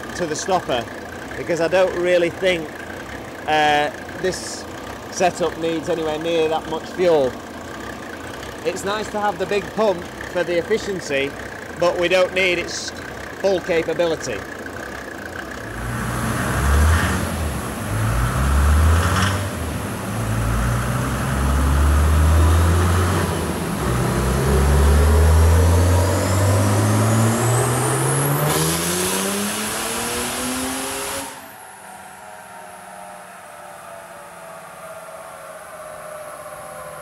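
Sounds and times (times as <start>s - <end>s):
diesel engine revving: 0.0s - 33.5s.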